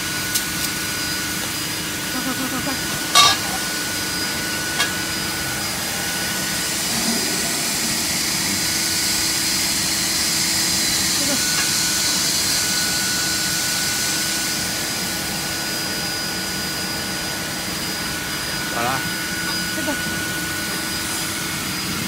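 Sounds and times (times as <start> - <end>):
drilling machine hum and whine: 0.0 - 22.0.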